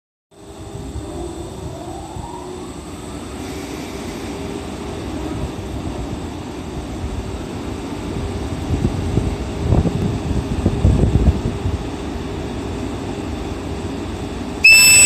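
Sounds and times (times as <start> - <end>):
electric locomotive humming: 0.4 - 15.0.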